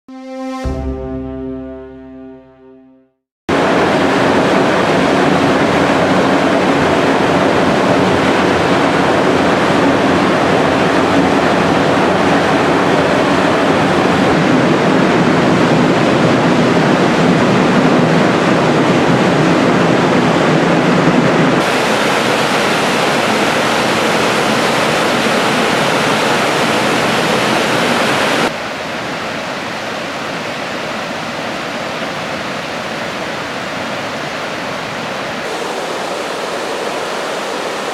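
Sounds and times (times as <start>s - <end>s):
waterfall rushing: 3.5s - 19.3s, 21.6s - 37.9s.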